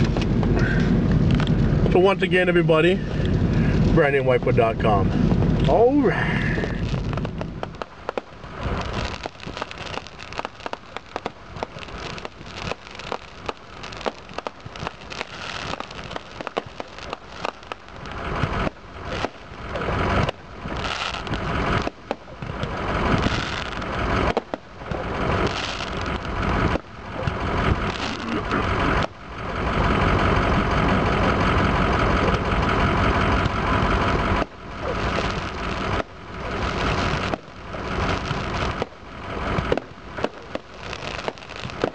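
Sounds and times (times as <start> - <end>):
crackling hiss: 0.0 - 41.9
fireworks bangs and crackles: 0.0 - 41.9.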